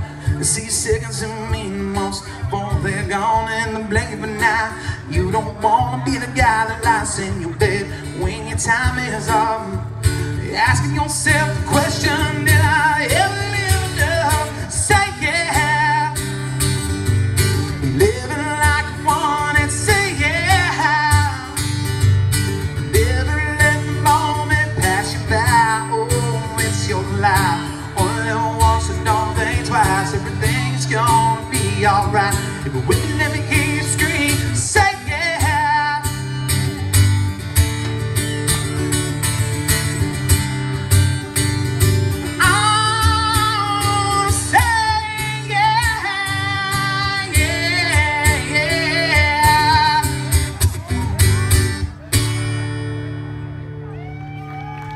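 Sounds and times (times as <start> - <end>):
country-rock band playing: 0.0 - 54.9.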